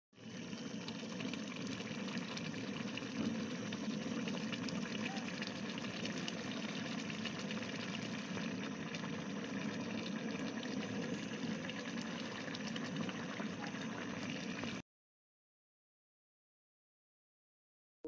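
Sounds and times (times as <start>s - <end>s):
soup bubbling at a boil: 0.1s - 14.8s.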